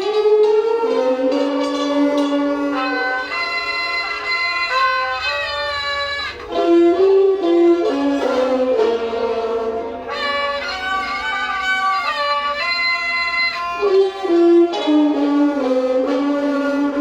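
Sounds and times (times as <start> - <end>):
classical instrumental music: 0.0 - 17.0.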